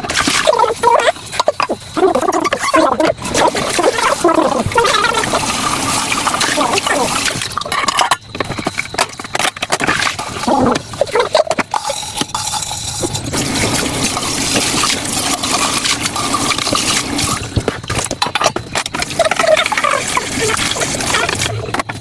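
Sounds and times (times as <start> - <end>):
water running and splashing: 0.0 - 21.8
clicks and clatter: 0.0 - 22.0.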